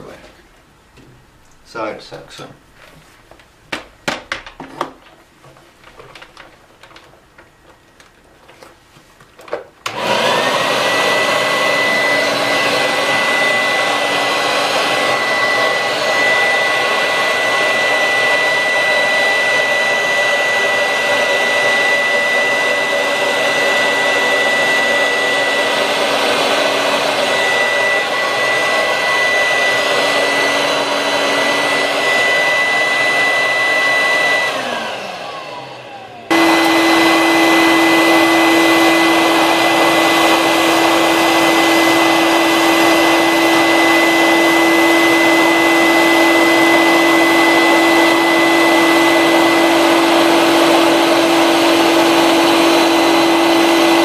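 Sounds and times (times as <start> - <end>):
vacuum cleaner humming low: 9.8 - 54.0
vacuum cleaner motor whining: 9.8 - 54.0
vacuum cleaner winding down: 9.8 - 54.0.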